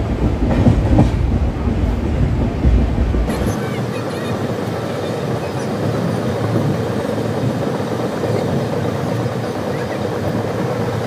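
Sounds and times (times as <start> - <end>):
train running noise from on board: 0.0 - 11.0.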